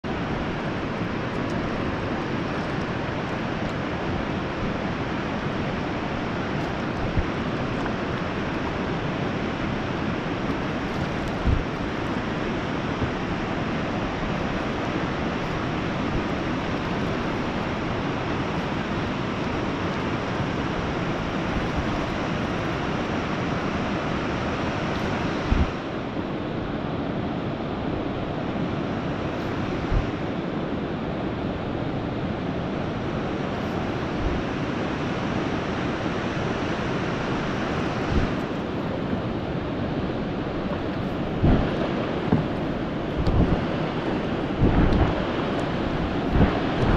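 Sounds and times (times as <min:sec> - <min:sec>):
river rushing: 0:00.0 - 0:46.9.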